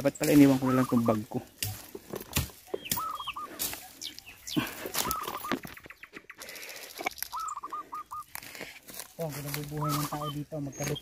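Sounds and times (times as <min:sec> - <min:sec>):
footsteps on rocky trail: 0:00.8 - 0:11.0.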